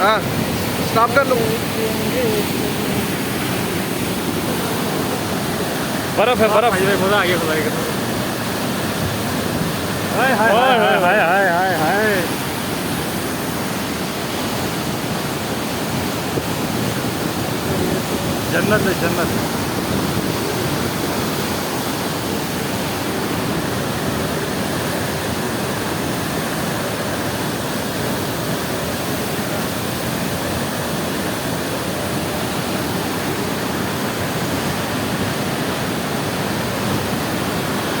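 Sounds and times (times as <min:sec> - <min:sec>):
waterfall pouring and splashing: 0:00.0 - 0:38.0.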